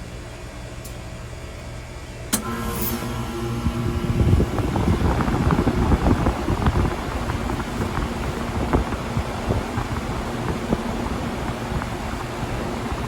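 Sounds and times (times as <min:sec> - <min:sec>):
compressor humming: 0:00.0 - 0:13.0
condenser fan air rush: 0:00.0 - 0:13.0.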